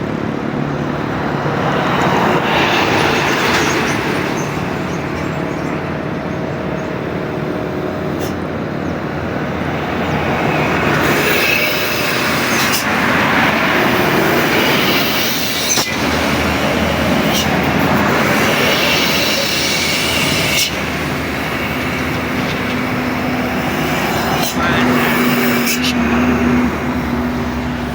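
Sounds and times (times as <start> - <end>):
heavy traffic rumble: 0.0 - 27.9.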